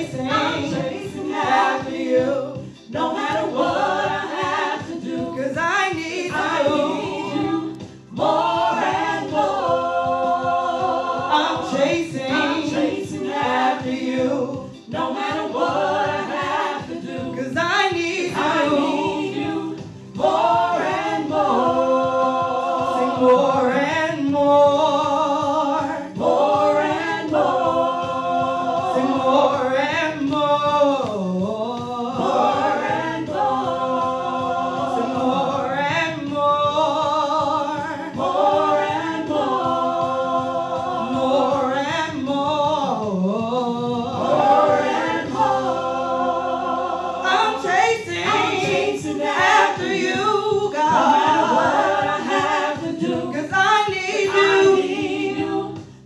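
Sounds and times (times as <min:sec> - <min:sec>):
group singing gospel song: 0:00.0 - 0:56.0.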